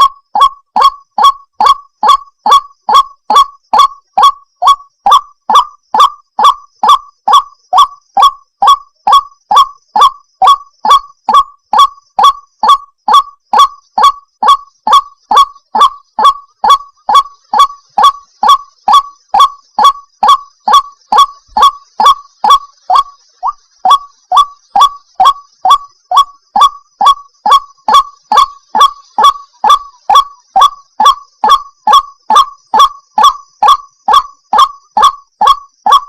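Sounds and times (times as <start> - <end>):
waterhen call: 0.0 - 36.0.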